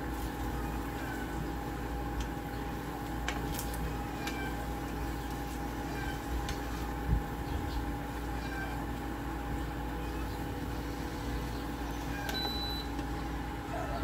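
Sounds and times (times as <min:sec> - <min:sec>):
induction cooktop humming: 0:00.0 - 0:14.0.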